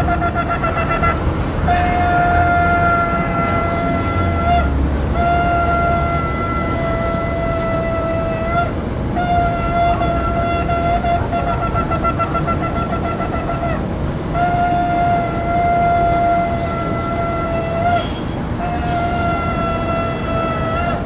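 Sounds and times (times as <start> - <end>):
low street noise: 0.0 - 21.0
shofar blasts: 0.0 - 21.0.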